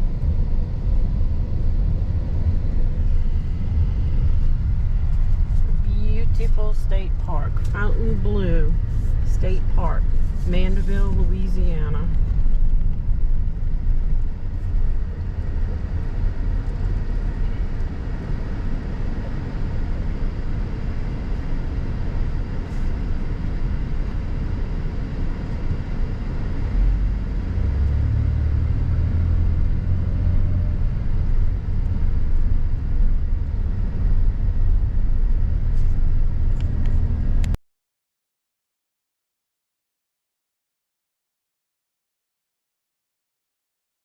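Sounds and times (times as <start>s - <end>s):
vehicle engine and road noise: 0.0s - 37.6s.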